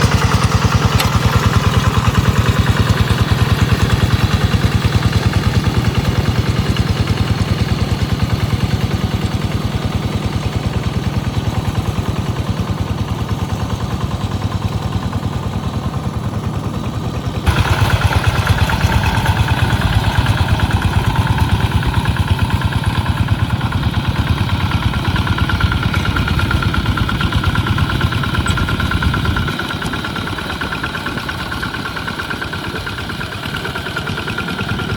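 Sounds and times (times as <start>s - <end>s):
tractor engine chugging: 0.0s - 34.9s.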